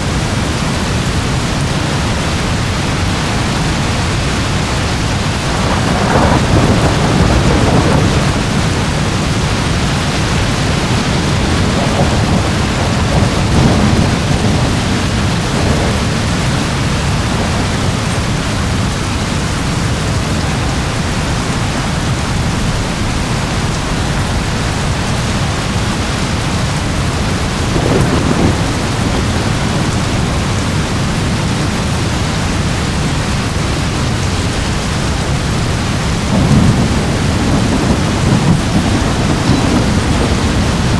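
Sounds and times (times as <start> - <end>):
heavy rain: 0.0 - 40.9
thunder rumbling: 0.0 - 40.9.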